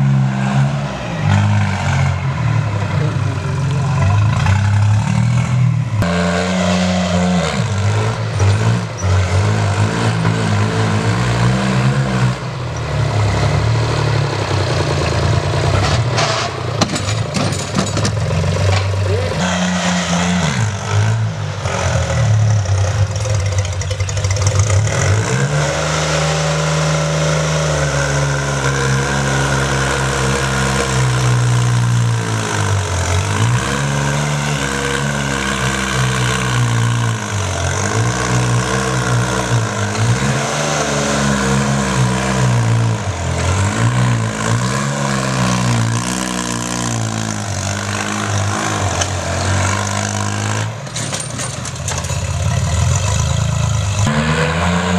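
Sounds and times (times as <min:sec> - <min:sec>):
tractor diesel engine labouring: 0:00.0 - 0:54.9.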